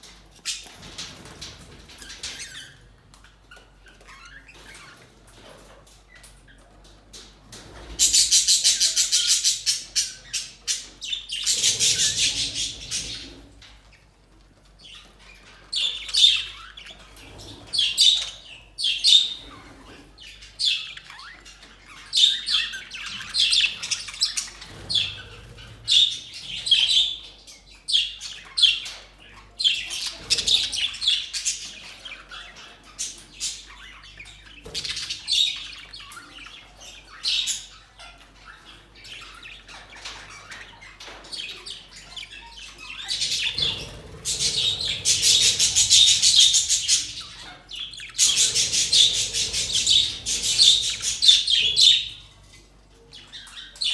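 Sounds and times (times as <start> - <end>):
budgerigars chirping and squawking: 0.1 - 53.9.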